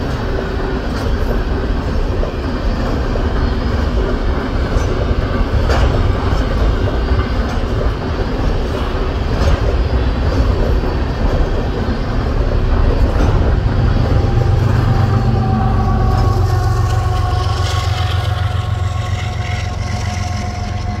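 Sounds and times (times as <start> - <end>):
diesel locomotive engine rumble: 0.0 - 21.0
train wheels clattering on rails: 0.0 - 21.0.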